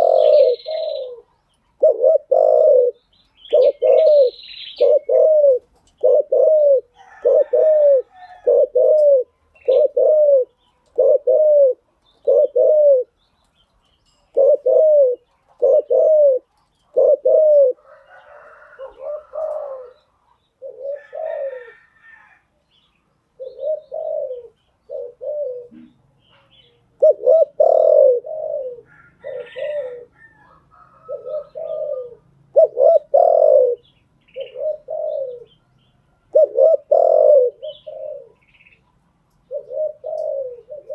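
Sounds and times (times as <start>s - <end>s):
dove cooing: 0.0s - 13.2s, 14.3s - 22.4s, 23.3s - 40.9s.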